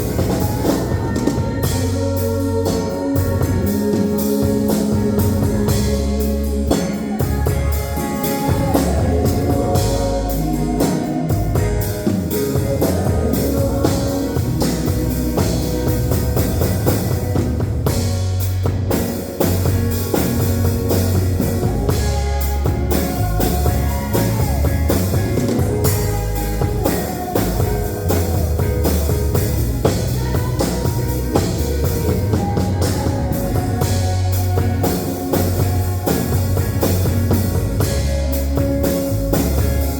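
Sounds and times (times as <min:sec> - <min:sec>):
band playing drums bass guitar: 0:00.0 - 0:39.9.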